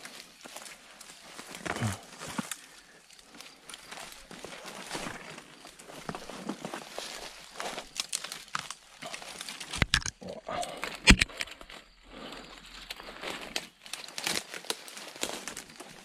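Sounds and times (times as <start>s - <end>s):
footsteps through dry brush: 0.0s - 9.8s, 10.6s - 16.0s
twigs snapping: 0.1s - 16.0s.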